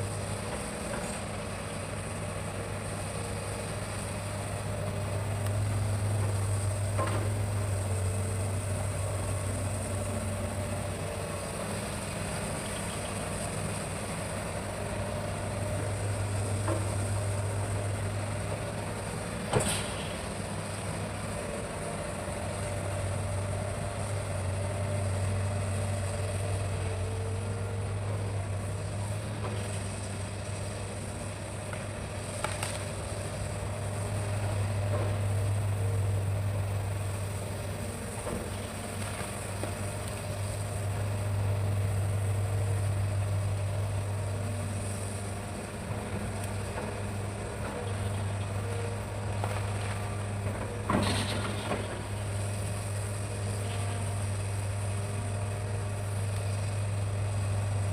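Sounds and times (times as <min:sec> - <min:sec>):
excavator diesel engine humming: 0:00.0 - 0:57.9.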